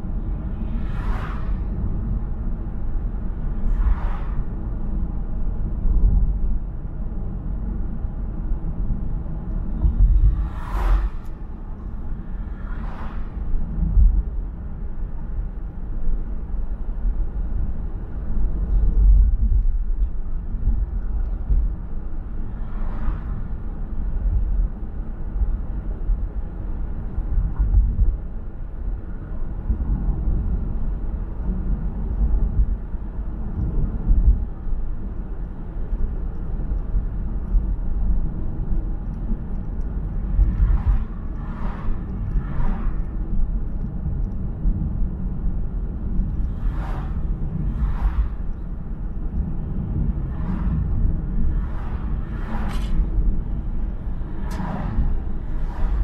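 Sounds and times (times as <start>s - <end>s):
car road and tyre rumble: 0.0s - 56.0s.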